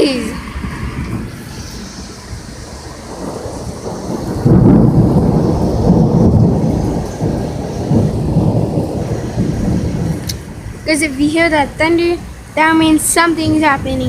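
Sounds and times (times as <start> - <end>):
heavy rain hiss: 0.0 - 14.0
thunder rumble: 0.0 - 14.0.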